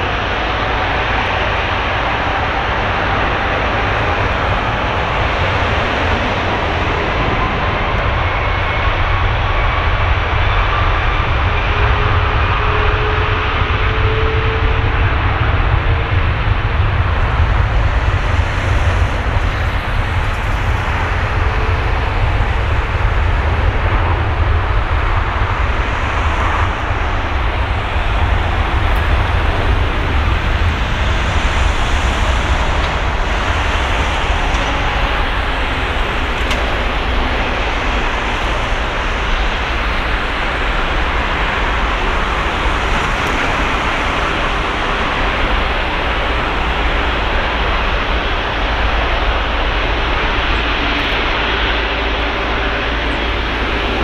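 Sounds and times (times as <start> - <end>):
jet engines at takeoff thrust: 0.0 - 54.0.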